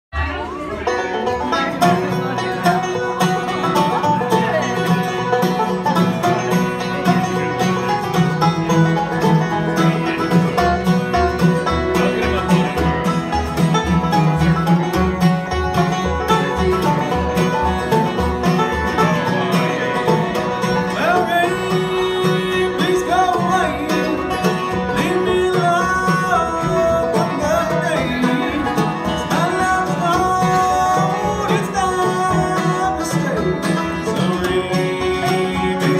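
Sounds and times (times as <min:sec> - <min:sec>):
banjo rolls: 0:00.1 - 0:35.9
mandolin: 0:00.1 - 0:35.9
dobro: 0:00.2 - 0:35.9
flatpicked acoustic guitar: 0:00.2 - 0:35.9.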